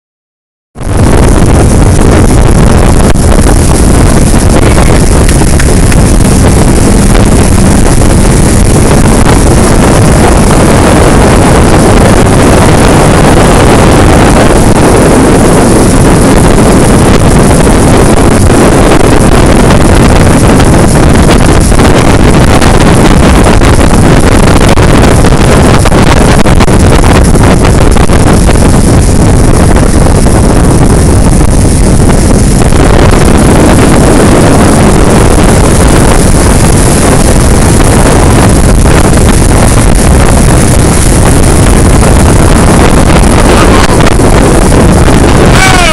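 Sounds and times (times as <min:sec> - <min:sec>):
churning boat wake: 0:00.8 - 0:45.9
motorboat running at speed: 0:00.8 - 0:45.9
wind buffeting microphone: 0:00.8 - 0:45.9.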